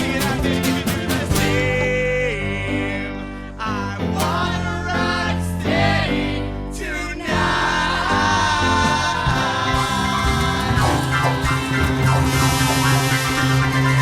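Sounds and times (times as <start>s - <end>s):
live ska band playing: 0.0s - 5.2s, 7.3s - 14.0s
group vocals: 0.0s - 14.0s.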